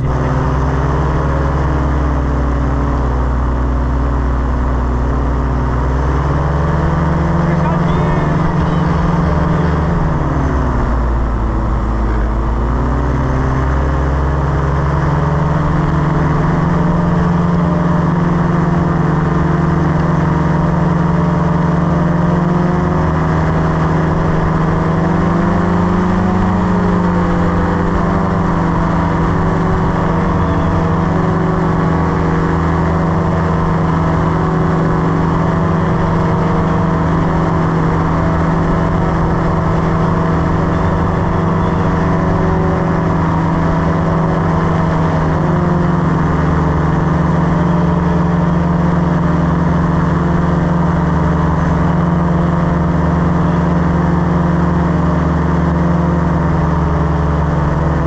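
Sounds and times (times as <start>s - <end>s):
paratrike engine and propeller: 0.0s - 58.0s.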